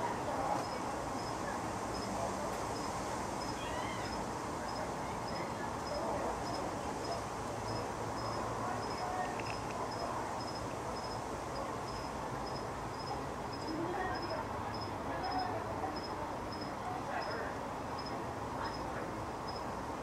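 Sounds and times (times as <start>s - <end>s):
background hiss: 0.0s - 20.0s
cricket chirping: 0.6s - 2.1s, 2.8s - 17.4s, 18.0s - 18.8s, 19.5s - 19.7s.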